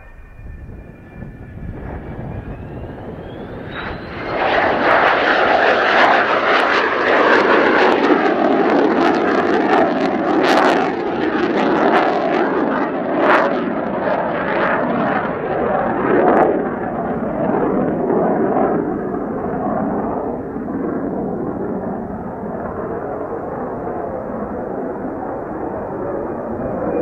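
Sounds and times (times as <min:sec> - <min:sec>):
jet engine roar: 0:00.0 - 0:27.0
jet engine whine rising: 0:00.0 - 0:27.0.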